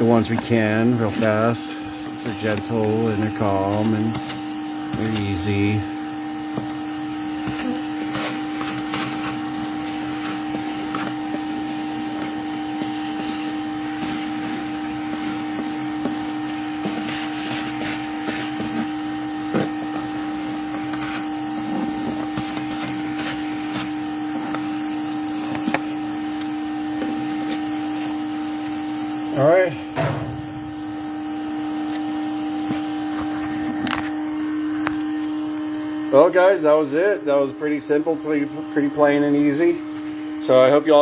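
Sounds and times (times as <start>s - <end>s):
vacuum motor humming: 0.0s - 41.0s.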